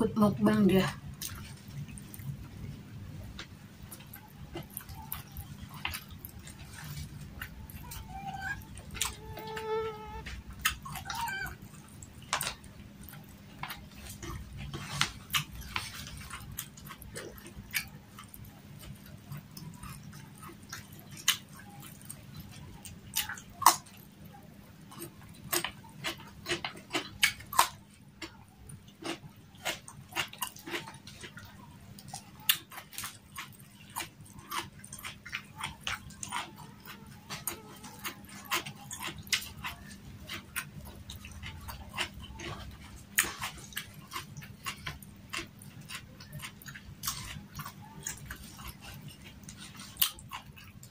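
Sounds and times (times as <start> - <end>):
wet chewing: 1.0 - 50.9.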